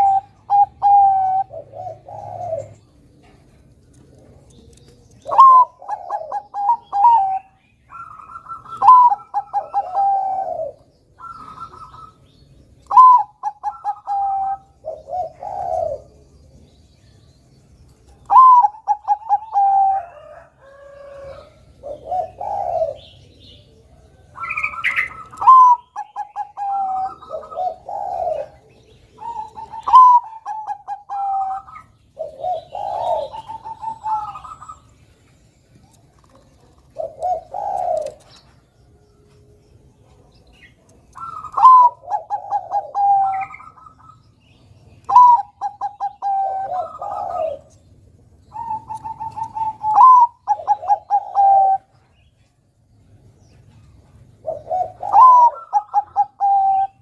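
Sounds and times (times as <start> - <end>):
dove cooing: 0.0 - 16.8, 18.2 - 35.2, 35.8 - 38.8, 40.0 - 52.3, 53.6 - 57.0.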